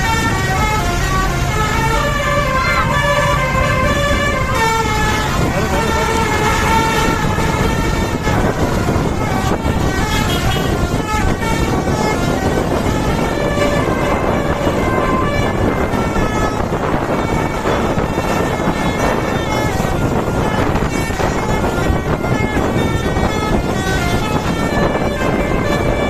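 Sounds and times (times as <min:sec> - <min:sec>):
musical bus horn tune: 0:00.0 - 0:26.0
vehicle noise rumble: 0:00.0 - 0:26.0.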